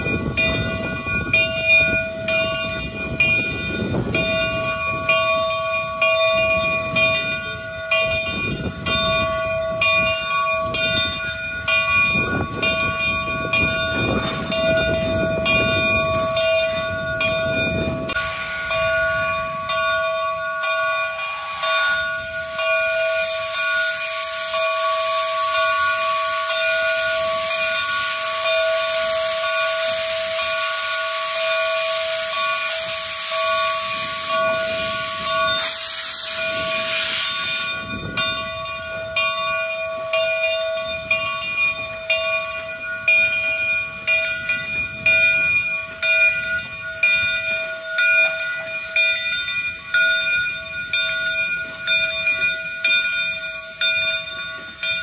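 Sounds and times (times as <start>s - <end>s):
loud steam hiss: 0.0s - 55.0s
steam locomotive rhythmic beat: 0.0s - 55.0s.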